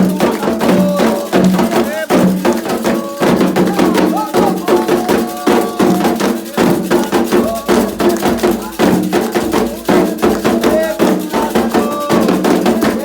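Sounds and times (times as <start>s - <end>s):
hand drums beating: 0.0s - 13.0s
voices singing a chant: 0.0s - 13.0s.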